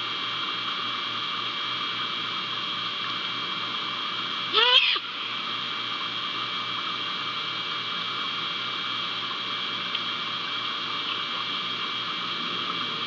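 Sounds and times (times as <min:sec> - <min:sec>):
low electrical hum: 0:00.0 - 0:13.0
steady hiss: 0:00.0 - 0:13.0
thin high whine: 0:00.0 - 0:13.0.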